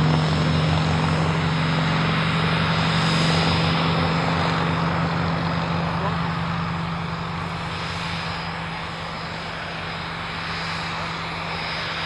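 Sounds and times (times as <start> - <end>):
propeller aircraft engine droning: 0.0 - 12.0.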